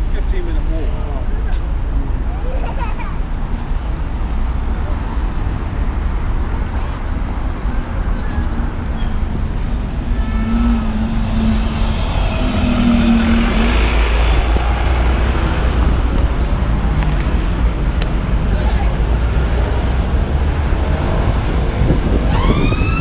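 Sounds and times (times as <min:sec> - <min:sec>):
busy street traffic: 0:00.0 - 0:23.0
bus engine passing: 0:01.0 - 0:23.0.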